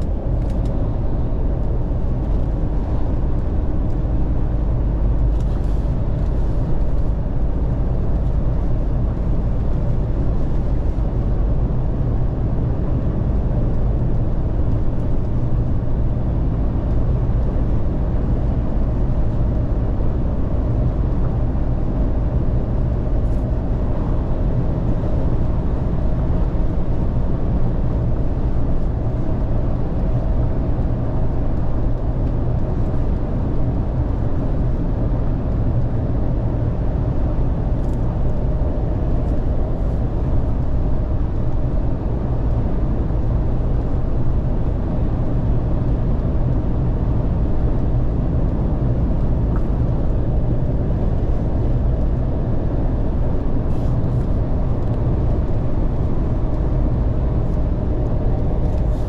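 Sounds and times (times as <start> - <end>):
tyre and wind rumble: 0.0 - 59.0.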